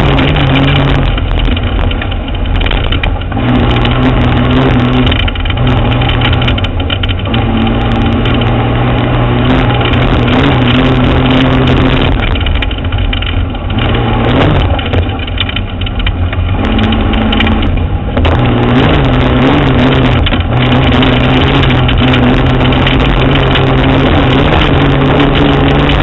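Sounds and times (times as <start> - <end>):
off-road vehicle engine running: 0.0 - 26.0
tyres rolling on dirt: 0.0 - 26.0.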